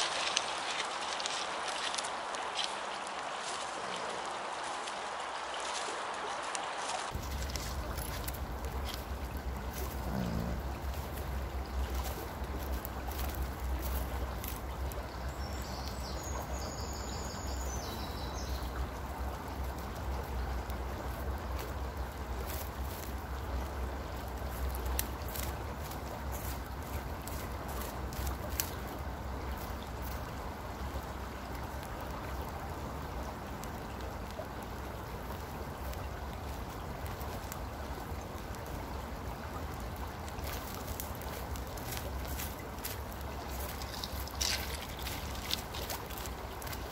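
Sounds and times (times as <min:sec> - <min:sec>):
river flowing: 0:00.0 - 0:46.9.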